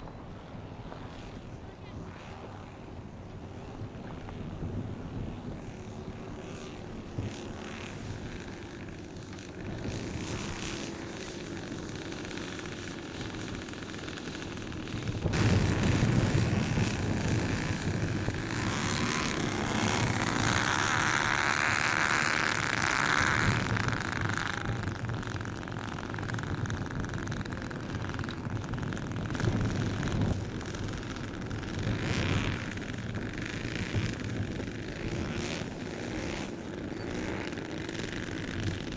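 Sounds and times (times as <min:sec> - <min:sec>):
model airplane petrol engines: 0:00.0 - 0:38.9
higher-pitched buzz: 0:00.8 - 0:38.9.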